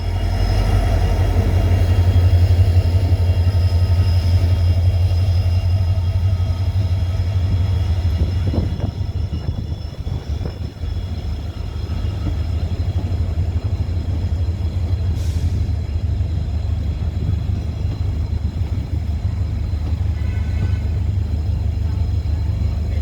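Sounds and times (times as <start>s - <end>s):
diesel train rumbling: 0.0s - 23.0s.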